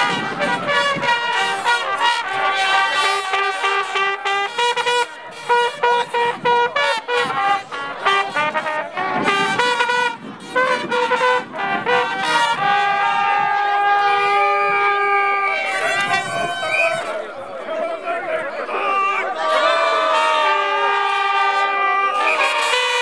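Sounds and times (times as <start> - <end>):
trumpets blaring: 0.0 - 23.0.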